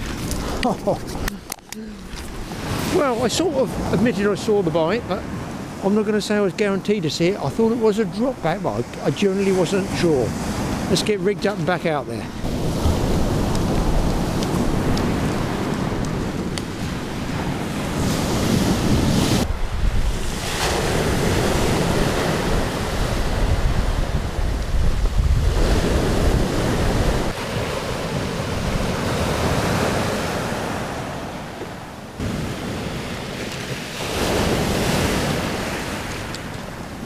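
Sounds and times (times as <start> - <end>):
wind buffeting microphone: 7.0 - 37.0.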